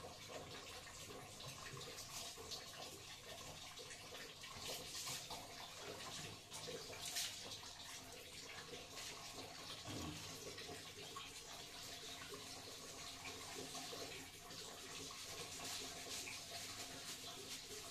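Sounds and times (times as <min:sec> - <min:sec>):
shower water splashing on tiles: 0:00.0 - 0:17.9.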